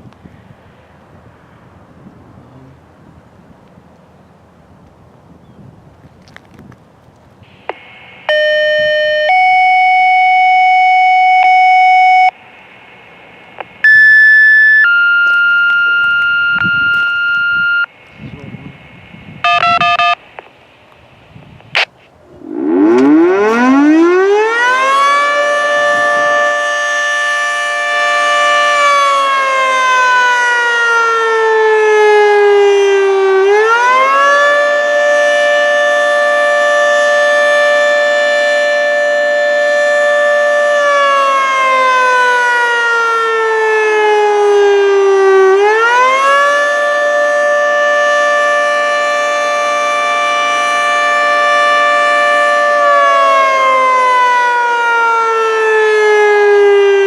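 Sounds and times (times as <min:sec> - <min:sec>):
outdoor warning siren wailing: 0:07.5 - 0:20.2, 0:22.3 - 0:57.0.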